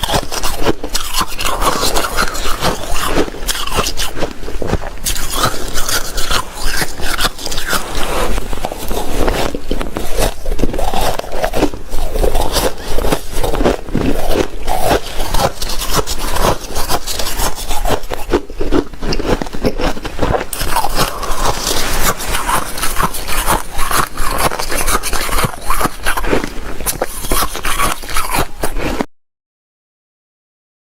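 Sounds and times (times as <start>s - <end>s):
shaved ice crunching and scraping: 0.0s - 29.1s.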